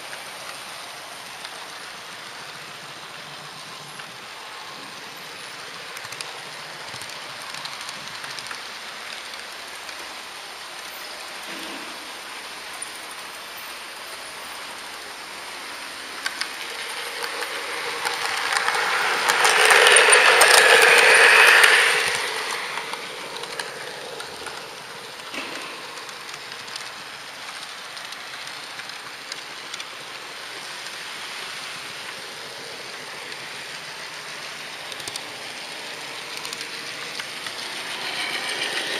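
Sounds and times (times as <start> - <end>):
model train rattling on track: 0.0 - 38.9
second model train passing: 0.0 - 38.9.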